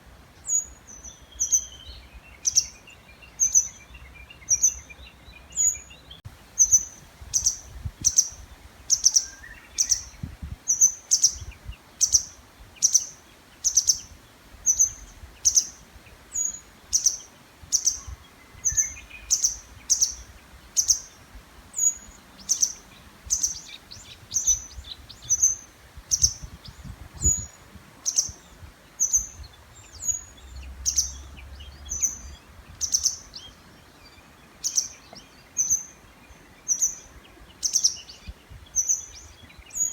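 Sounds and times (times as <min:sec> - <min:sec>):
faint birds calling: 0:00.0 - 0:39.9
songbird high-pitched call: 0:00.4 - 0:39.9.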